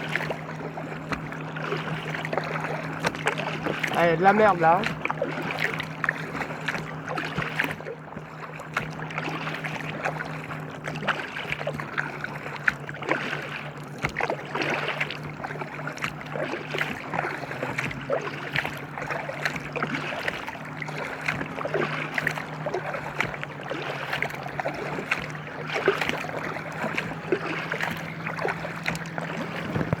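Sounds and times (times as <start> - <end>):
water splashing around kayak: 0.0 - 30.0.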